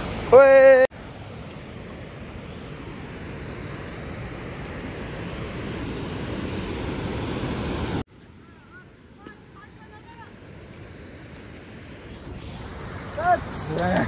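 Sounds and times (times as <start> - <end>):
steady rushing roar: 0.0 - 8.3, 9.8 - 14.0.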